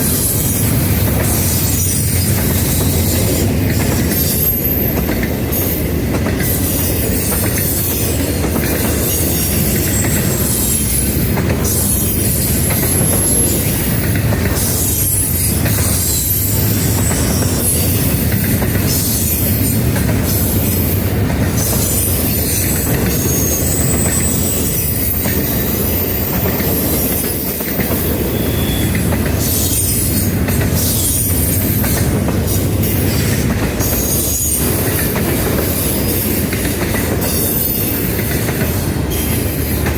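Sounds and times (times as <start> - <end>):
freight train cars rumbling: 0.0 - 39.9
train wheel squeals: 0.0 - 39.9.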